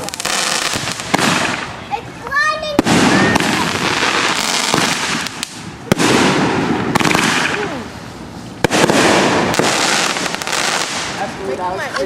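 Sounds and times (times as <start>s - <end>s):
firework bangs: 0.0s - 11.5s
fireworks crackling and hissing: 0.0s - 12.0s.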